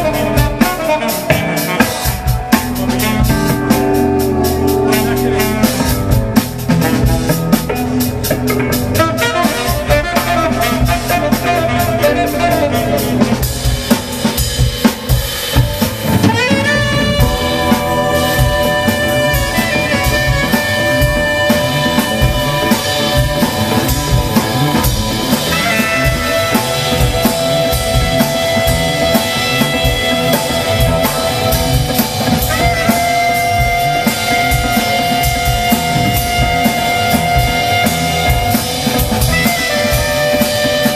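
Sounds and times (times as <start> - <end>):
saxophone long notes: 0.0 - 7.8, 8.5 - 14.4, 16.0 - 40.9
busy drum kit: 0.0 - 40.9.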